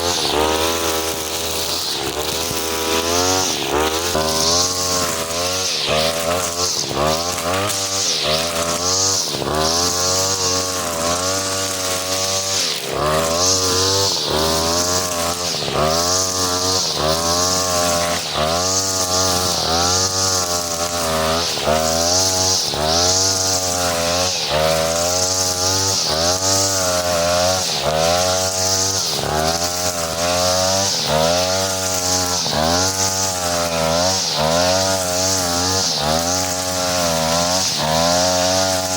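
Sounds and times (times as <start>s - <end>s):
brush cutter cutting grass: 0.0s - 38.9s.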